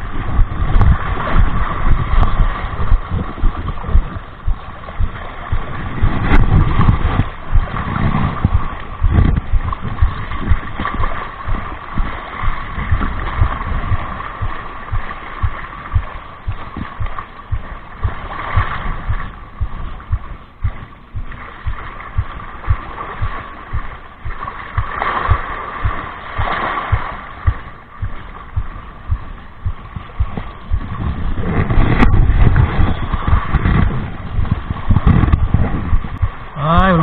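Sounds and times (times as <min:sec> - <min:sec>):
water sloshing around legs: 0:00.0 - 0:36.6
footsteps wading in water: 0:00.0 - 0:37.0
wind rumbling on microphone: 0:00.0 - 0:37.0.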